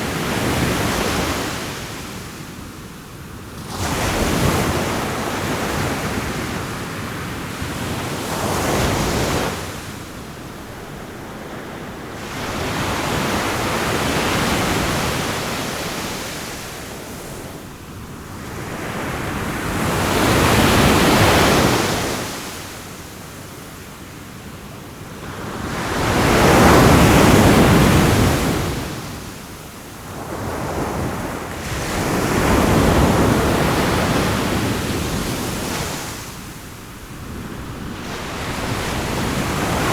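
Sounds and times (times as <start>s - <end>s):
ocean waves breaking on shore: 0.0s - 23.3s, 25.1s - 39.9s.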